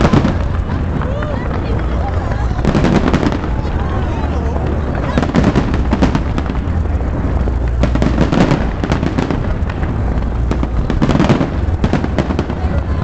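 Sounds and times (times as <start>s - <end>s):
booming shells rumble: 0.0s - 13.0s
fireworks bangs and crackles: 0.0s - 13.0s.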